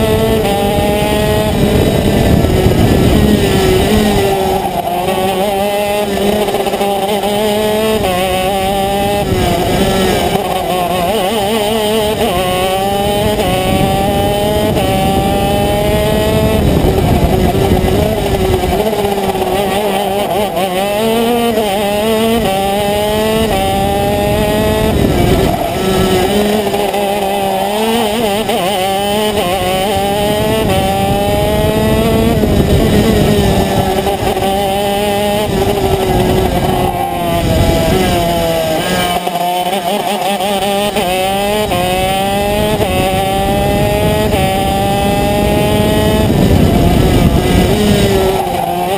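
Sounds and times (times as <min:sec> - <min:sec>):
kart engine revving: 0:00.0 - 0:48.9.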